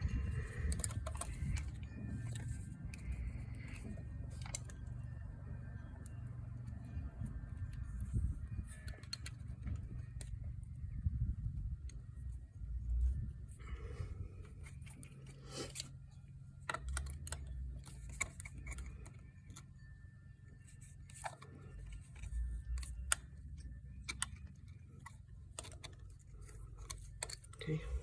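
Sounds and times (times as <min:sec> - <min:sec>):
faint low hum: 0:00.0 - 0:28.0
small metallic clicks and clinks: 0:00.2 - 0:10.8, 0:14.4 - 0:28.0.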